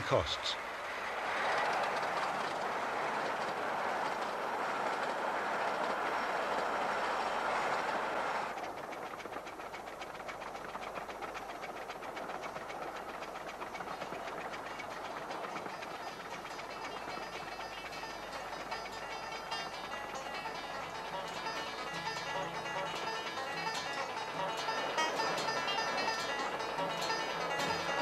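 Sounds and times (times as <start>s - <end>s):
miniature steam train passing: 0.0s - 28.0s
wheels clicking over track: 0.0s - 28.0s.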